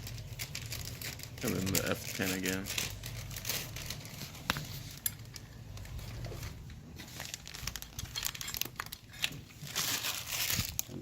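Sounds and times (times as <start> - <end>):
light rustling handling noise: 0.0 - 11.0.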